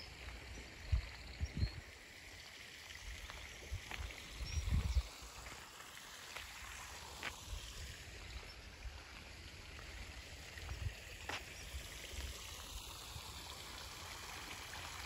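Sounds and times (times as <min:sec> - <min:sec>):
fountain water splashing: 0:02.0 - 0:15.0.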